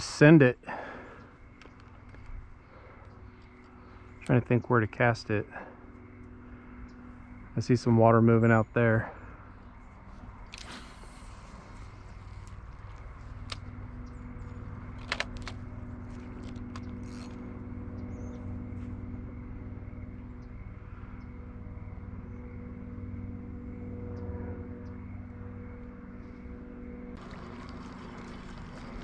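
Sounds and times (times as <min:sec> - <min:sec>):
distant engine hum: 0:00.0 - 0:29.0.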